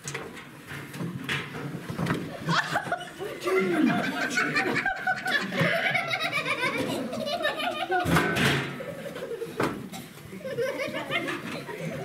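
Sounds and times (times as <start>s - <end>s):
people laughing and talking: 2.2s - 12.0s.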